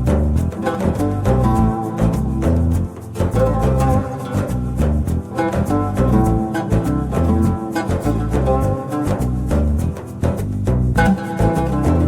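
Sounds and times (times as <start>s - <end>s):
background music with plucked bass: 0.0s - 12.0s.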